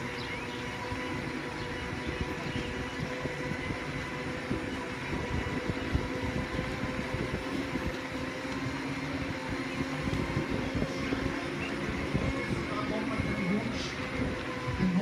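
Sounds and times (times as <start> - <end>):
electric motors whining: 0.0 - 15.0
low rumble of wheels: 0.0 - 15.0
wind: 0.0 - 15.0.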